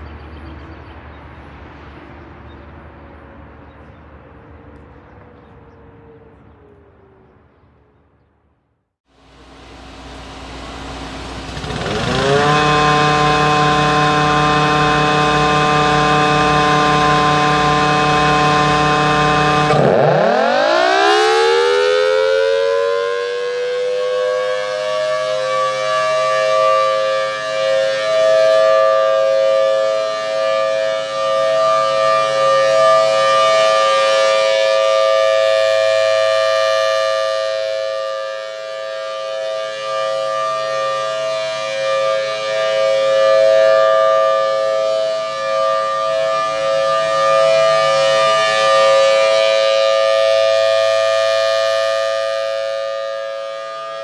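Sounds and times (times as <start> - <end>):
siren steady tone: 2.9 - 8.4, 9.1 - 54.0.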